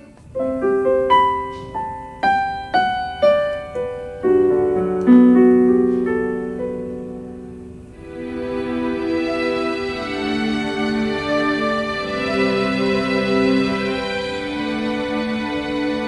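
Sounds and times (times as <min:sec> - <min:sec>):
keyboard playing piano melody: 0:00.0 - 0:16.0.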